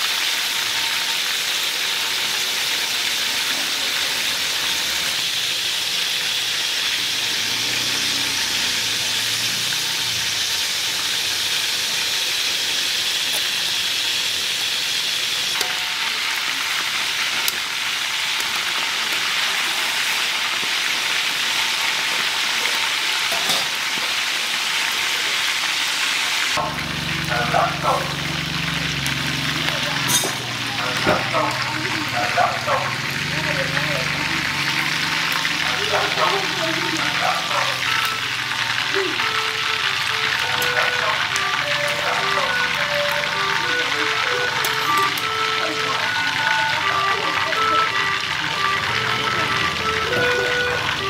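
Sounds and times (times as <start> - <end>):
quails frying in hot oil: 0.0 - 51.0.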